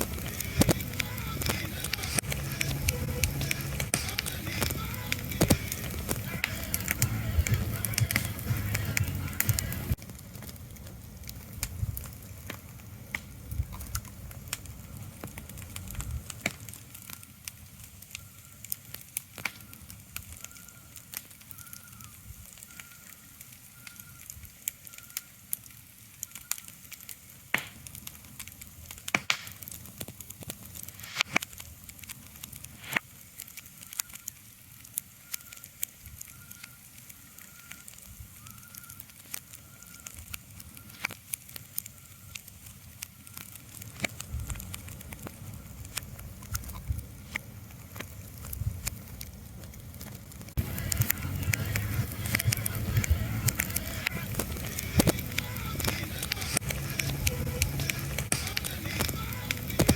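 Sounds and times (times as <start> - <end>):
crackling and snapping clicks: 0.0 - 59.9.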